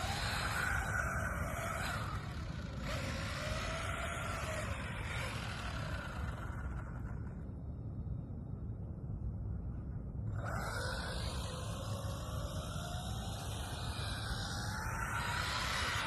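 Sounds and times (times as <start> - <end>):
electric motor whining: 0.0 - 7.4, 10.4 - 16.0.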